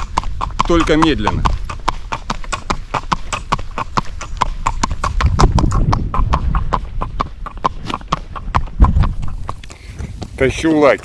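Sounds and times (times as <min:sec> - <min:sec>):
horse hooves clip-clopping on asphalt: 0:00.0 - 0:11.0.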